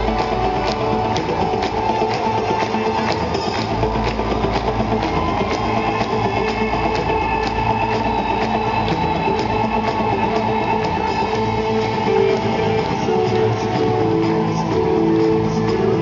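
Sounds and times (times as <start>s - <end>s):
drums keeping steady beat: 0.0s - 16.0s
live concert music over pa: 0.0s - 16.0s.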